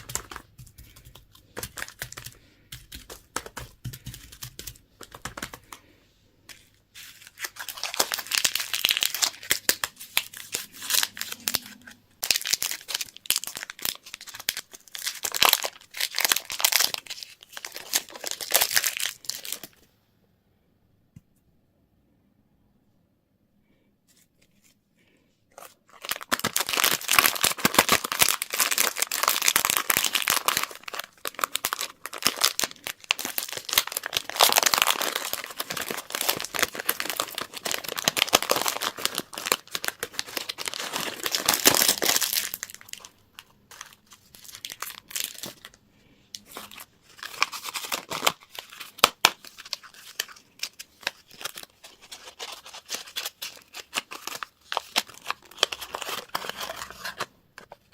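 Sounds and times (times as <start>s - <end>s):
candy wrappers crinkling: 0.0s - 5.9s, 6.5s - 19.8s, 25.5s - 57.9s.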